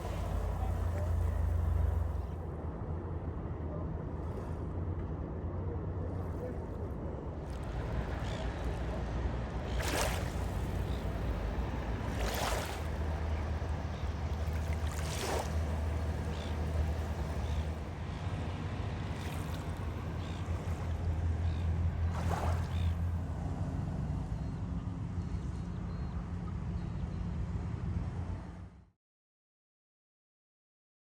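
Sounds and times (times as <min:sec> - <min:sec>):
car road and engine drone: 0:00.0 - 0:05.7, 0:07.5 - 0:28.8.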